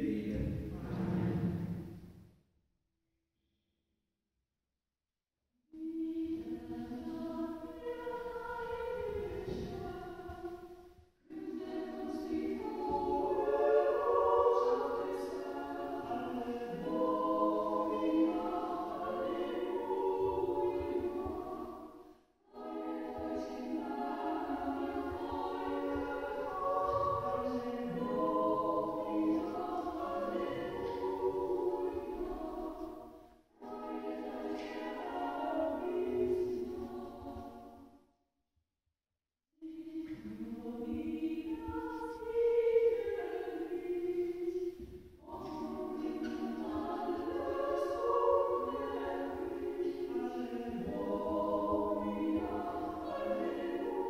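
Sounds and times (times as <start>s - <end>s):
group singing church song: 0.0s - 2.0s, 5.8s - 37.9s, 39.6s - 54.0s.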